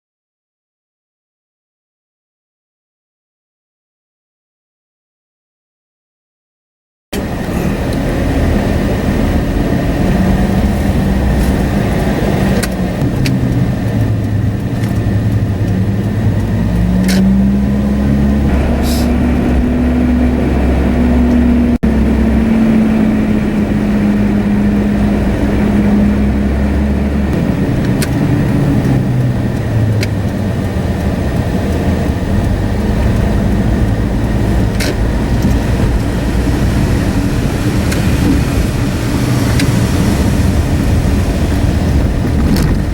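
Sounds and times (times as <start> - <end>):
car engine running: 7.2 - 42.9.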